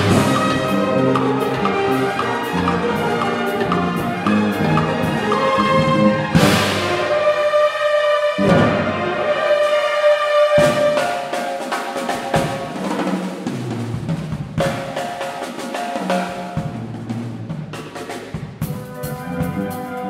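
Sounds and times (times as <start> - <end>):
drum solo: 0.0 - 7.3, 10.5 - 20.0.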